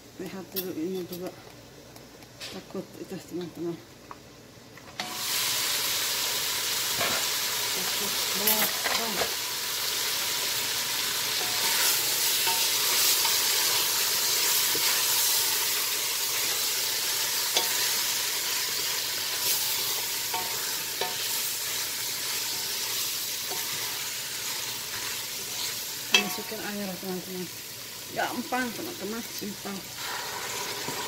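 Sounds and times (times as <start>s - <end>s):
food sizzling in a pot: 4.8s - 31.0s.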